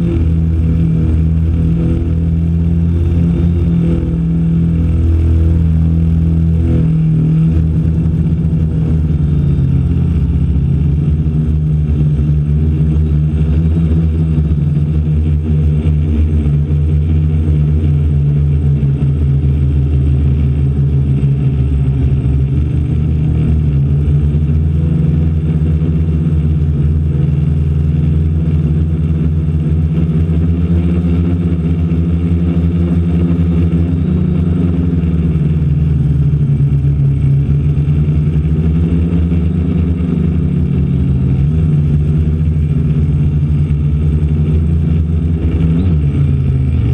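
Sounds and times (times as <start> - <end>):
drone motors and propellers droning: 0.0 - 46.9.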